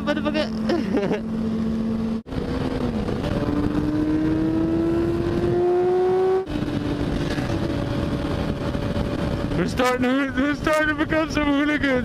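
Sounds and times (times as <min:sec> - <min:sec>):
motorcycle engine accelerating: 0:00.0 - 0:10.3
wind noise on microphone: 0:01.8 - 0:12.0.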